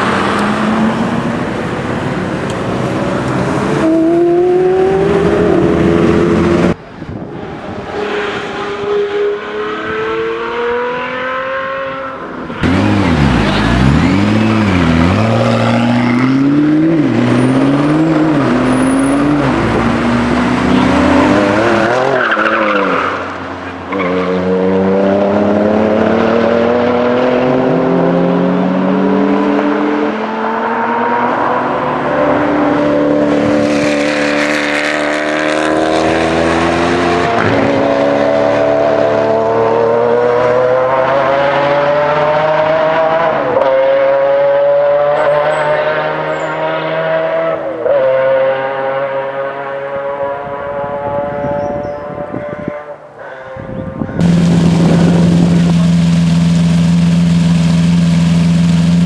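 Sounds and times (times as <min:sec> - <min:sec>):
car engine revving and accelerating: 0:00.0 - 0:06.8, 0:07.8 - 0:59.0.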